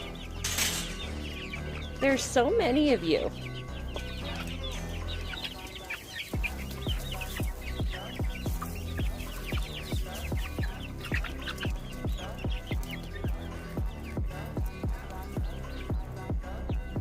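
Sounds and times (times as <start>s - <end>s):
background music with steady beat: 0.0s - 17.0s
chickens clucking: 0.0s - 17.0s
chicks peeping: 0.0s - 17.0s.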